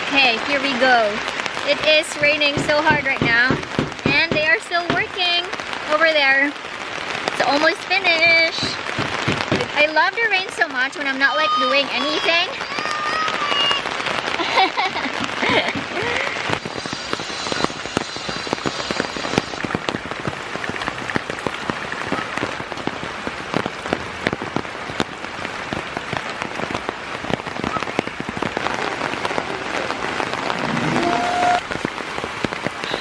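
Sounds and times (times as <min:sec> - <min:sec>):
heavy rain pelting down: 0:00.0 - 0:33.0.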